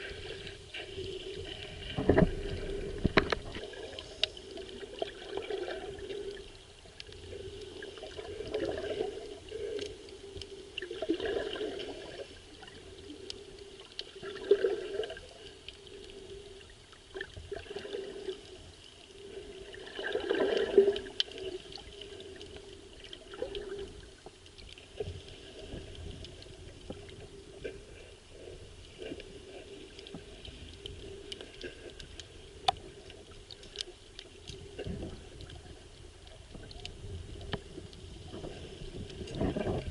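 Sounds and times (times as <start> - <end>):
muffled underwater water sloshing: 0.0 - 39.9.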